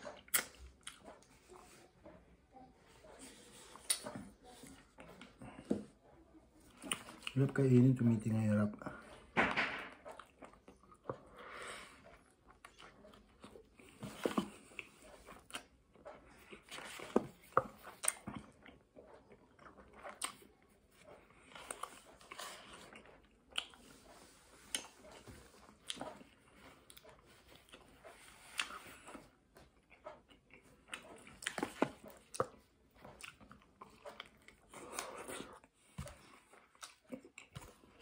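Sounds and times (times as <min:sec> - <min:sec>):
chewing and biting food: 0:00.0 - 0:02.2, 0:03.1 - 0:07.6, 0:09.0 - 0:38.0.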